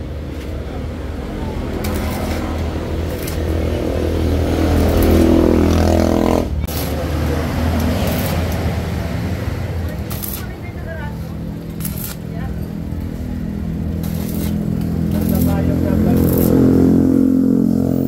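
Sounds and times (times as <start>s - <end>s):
welding arc crackling: 0.1s - 17.2s
welding machine hum: 0.2s - 17.1s.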